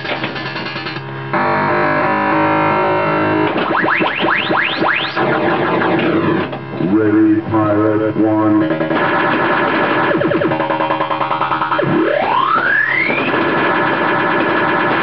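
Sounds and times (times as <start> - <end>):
distorted guitar-like music: 0.0 - 15.0.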